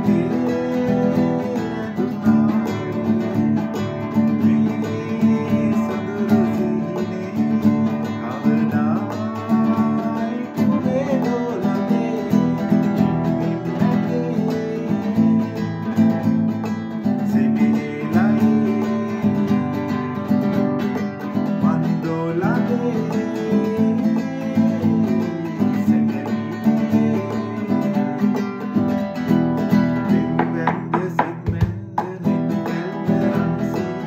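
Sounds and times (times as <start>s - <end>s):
man singing: 0.0s - 34.0s
nylon-string guitar strummed: 0.0s - 34.0s.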